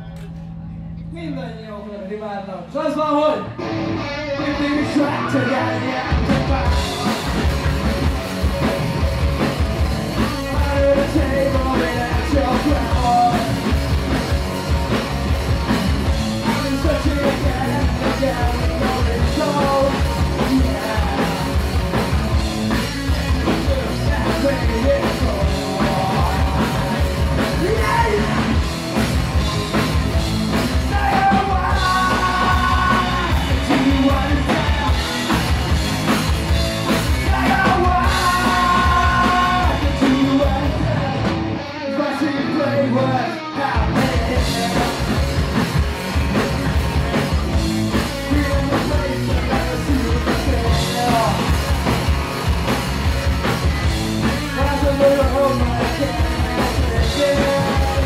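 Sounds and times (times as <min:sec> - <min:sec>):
electric bass: 0:00.0 - 0:58.0
electric guitar: 0:03.4 - 0:58.0
men singing and shouting: 0:03.8 - 0:08.6, 0:09.7 - 0:14.9, 0:15.7 - 0:52.2, 0:53.8 - 0:58.0
drum kit: 0:05.8 - 0:58.0.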